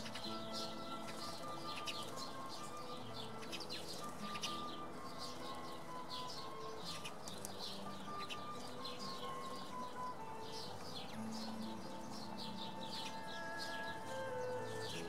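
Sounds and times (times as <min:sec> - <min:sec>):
soft background music: 0:00.0 - 0:15.0
sparrows chirping: 0:00.0 - 0:15.0.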